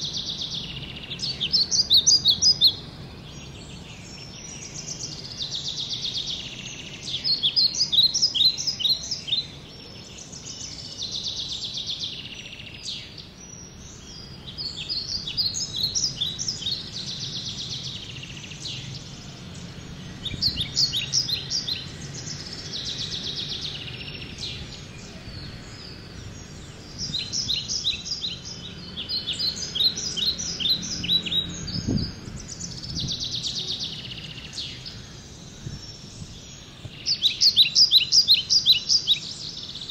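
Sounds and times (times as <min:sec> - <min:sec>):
birds singing buzzy trills: 0:00.0 - 0:39.9.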